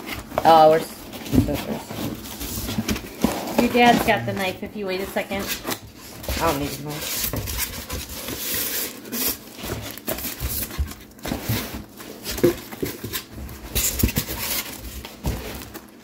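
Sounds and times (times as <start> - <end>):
cardboard tearing and rustling: 0.0 - 16.0.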